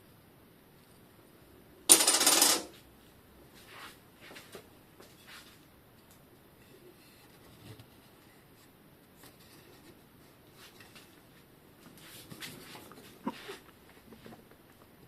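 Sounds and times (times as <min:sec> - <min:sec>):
soft rubbing of parts: 0:02.0 - 0:05.7, 0:06.4 - 0:14.9.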